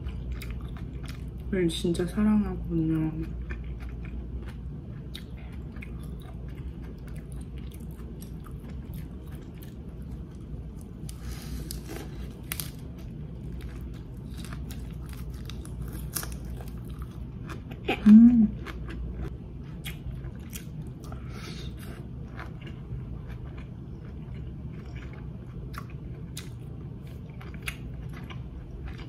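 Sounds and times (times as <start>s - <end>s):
person chewing crunchy food: 0.0s - 1.5s, 3.0s - 29.0s
steady low hum: 0.0s - 29.0s.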